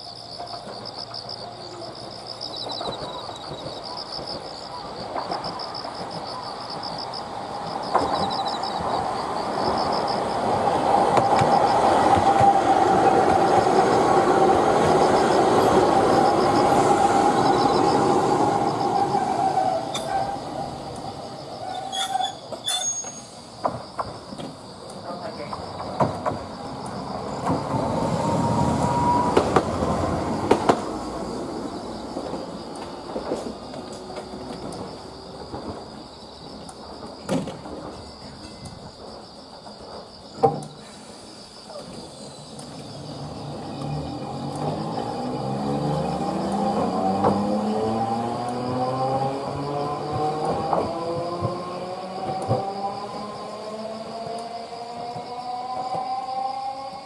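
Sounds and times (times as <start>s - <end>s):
rising train whine: 0.0s - 57.0s
train wheel and motor noise: 0.0s - 57.0s.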